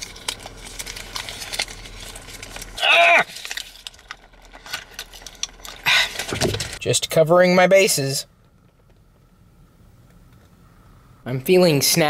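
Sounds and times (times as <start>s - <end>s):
car idling hum: 0.0s - 11.3s.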